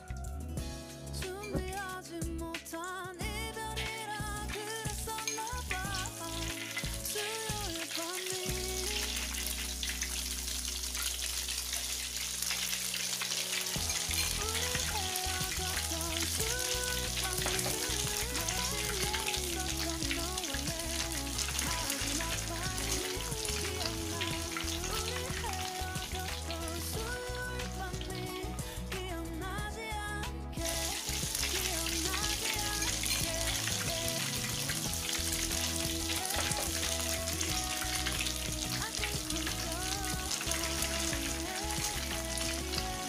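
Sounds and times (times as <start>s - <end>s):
background music: 0.0s - 43.0s
egg sizzling in hot oil: 4.9s - 28.7s, 30.6s - 43.0s.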